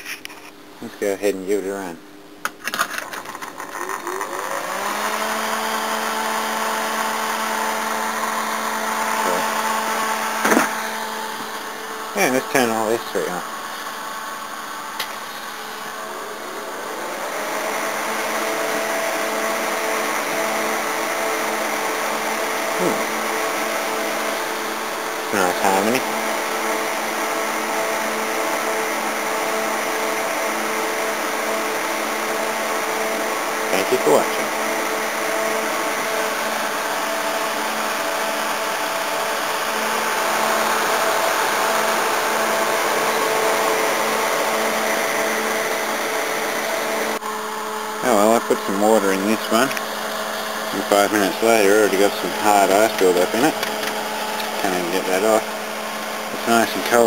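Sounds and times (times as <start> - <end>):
chiller motor hum: 0.0 - 57.0
condenser fans blowing: 0.0 - 57.0.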